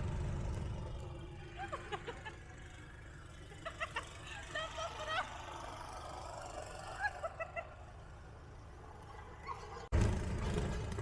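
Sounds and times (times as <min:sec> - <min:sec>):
snowplow engine rumbling: 0:00.0 - 0:11.0.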